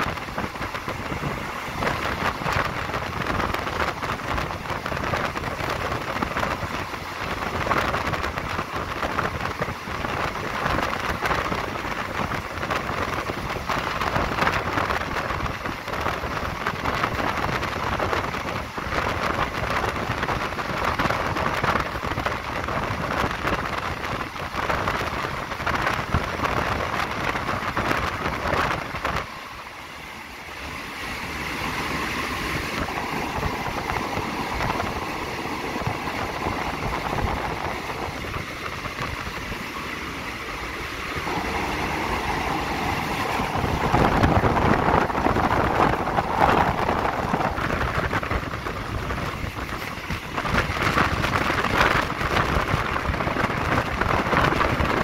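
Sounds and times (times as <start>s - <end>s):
train wheels rushing on rails: 0.0s - 55.0s
wind from moving train: 0.0s - 55.0s.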